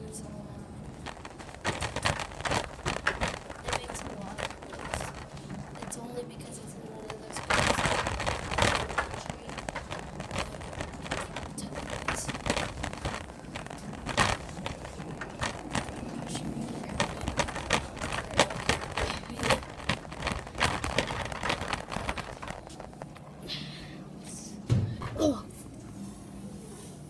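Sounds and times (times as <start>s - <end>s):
laundry cart wheels rattling: 0.0s - 23.4s
clacks and knocks: 0.9s - 23.2s.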